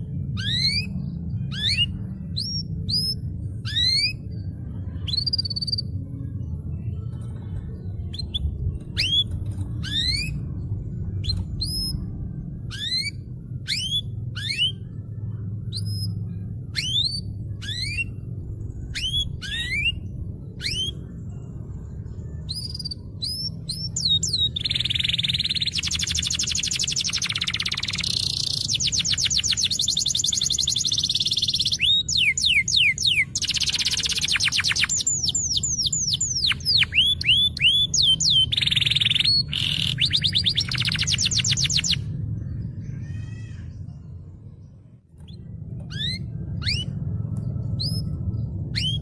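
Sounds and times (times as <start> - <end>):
canary singing: 0.0 - 6.6, 7.2 - 44.2, 45.2 - 49.0.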